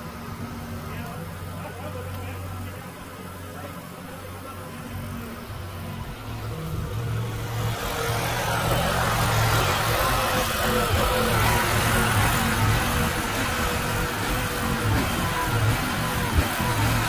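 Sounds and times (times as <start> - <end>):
small gasoline engine running: 0.0 - 17.0.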